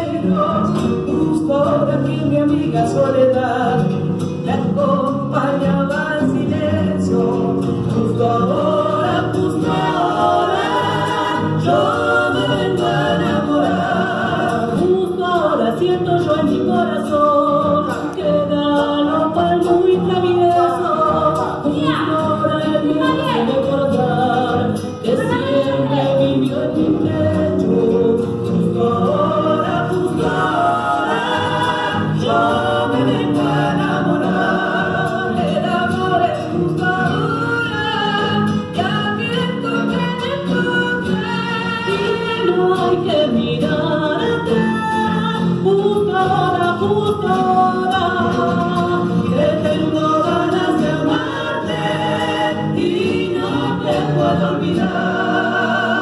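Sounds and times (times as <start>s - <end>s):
folk song over loudspeakers: 0.0s - 56.0s.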